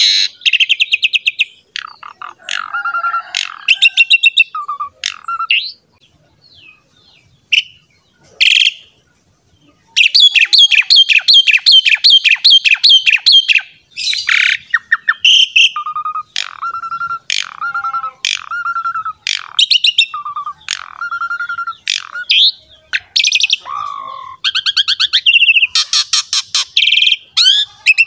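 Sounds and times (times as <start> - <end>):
starling singing: 0.0 - 28.0.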